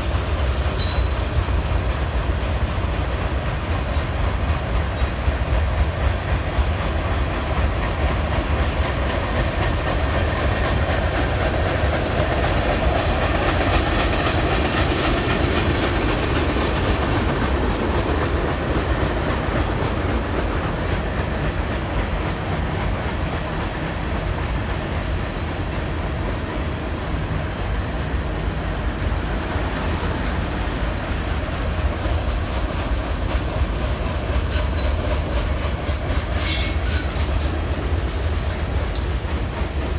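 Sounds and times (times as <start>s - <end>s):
train rumble: 0.0s - 39.9s
train wheels clicking over rails: 0.0s - 39.9s.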